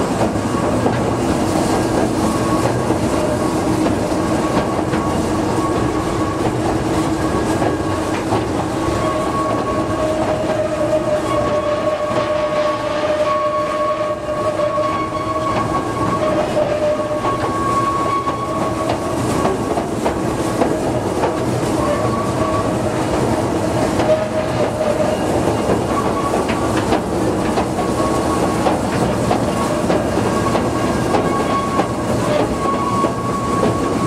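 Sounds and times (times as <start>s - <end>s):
train wheels clattering over rail joints: 0.0s - 12.4s, 14.7s - 34.0s
steady train whine: 0.0s - 34.0s.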